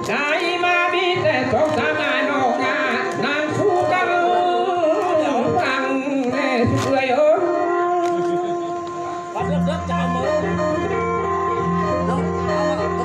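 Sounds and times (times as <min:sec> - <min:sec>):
person singing folk song: 0:00.0 - 0:11.0, 0:11.6 - 0:13.0
instrumental accompaniment: 0:00.0 - 0:13.0.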